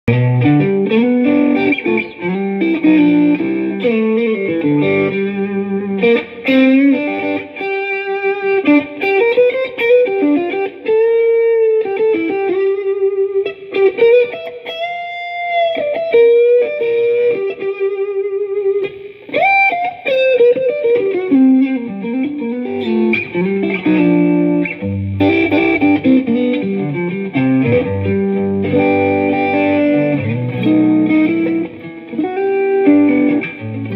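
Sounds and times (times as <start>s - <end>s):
electric guitar playing: 0.0s - 33.9s.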